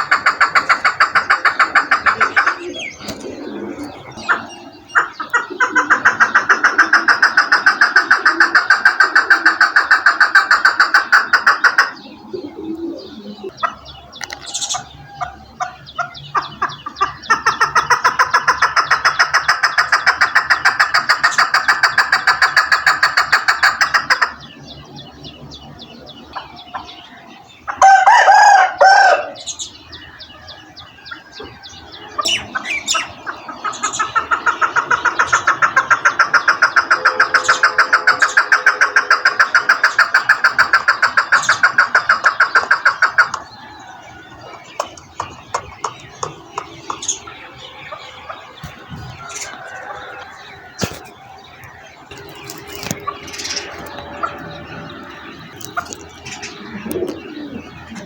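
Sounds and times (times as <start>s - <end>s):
harsh partridge call: 0.0s - 58.0s
partridge clucking calls: 0.0s - 58.0s.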